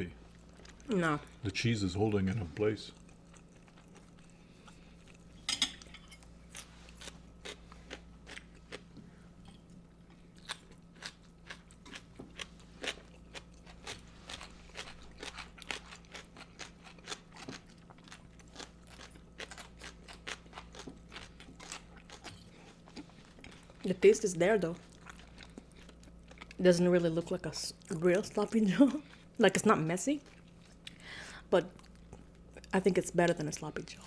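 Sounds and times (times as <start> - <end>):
people chewing and crunching: 0.0 - 34.0.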